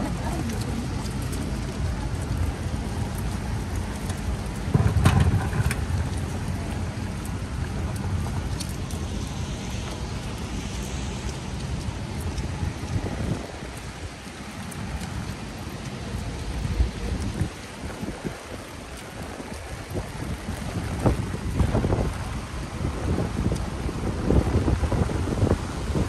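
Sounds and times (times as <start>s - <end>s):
steady rain hiss: 0.0s - 26.0s
street traffic rumble: 0.0s - 26.0s.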